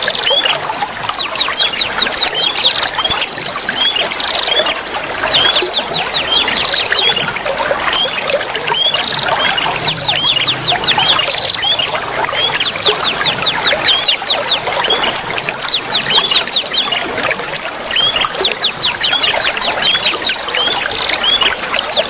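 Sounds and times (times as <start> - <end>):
birds chirping: 0.0 - 22.0
trickling water: 0.0 - 22.0.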